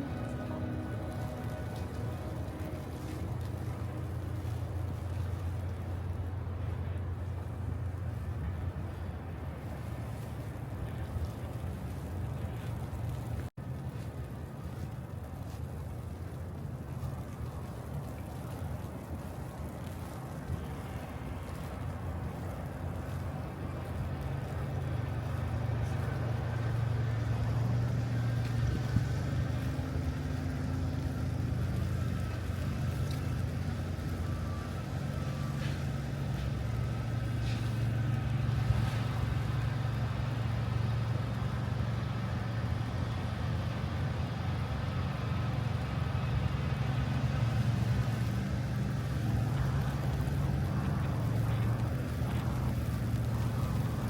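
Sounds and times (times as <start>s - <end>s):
city traffic rumble: 0.0s - 54.0s.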